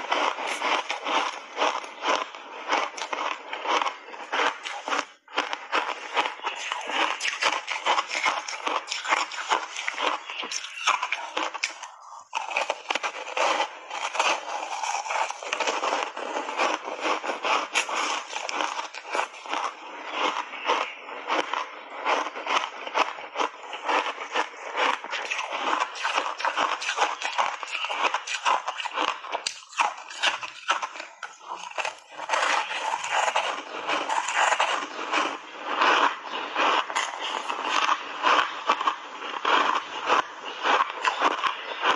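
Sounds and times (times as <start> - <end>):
ice crunching in the mouth: 0.0 - 41.9.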